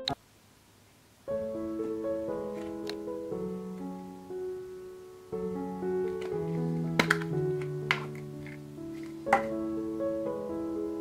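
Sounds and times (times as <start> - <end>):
gentle piano melody: 1.3 - 11.0.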